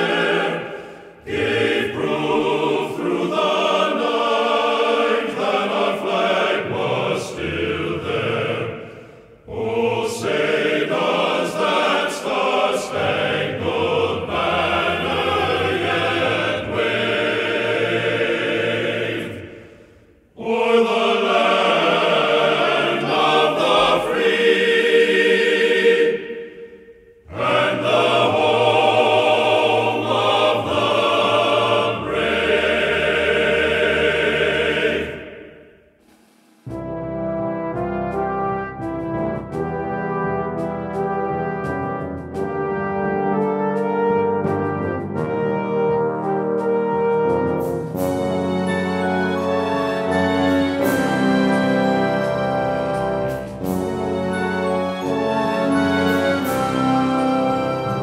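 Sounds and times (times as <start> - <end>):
music with choir singing: 0.0 - 35.8, 36.6 - 58.0.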